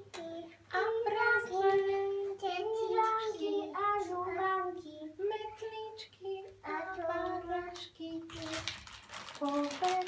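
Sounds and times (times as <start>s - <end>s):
child singing unaccompanied: 0.0s - 10.0s.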